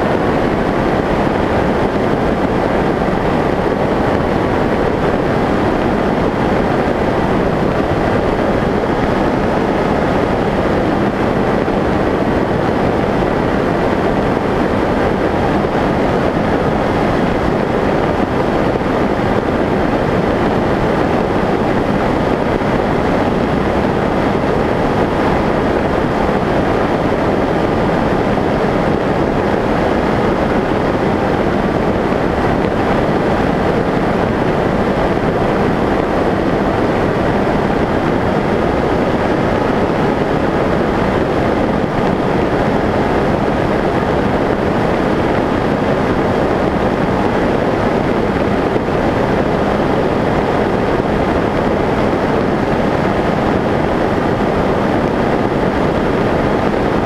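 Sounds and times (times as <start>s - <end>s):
airflow rushing on microphone: 0.0s - 57.0s.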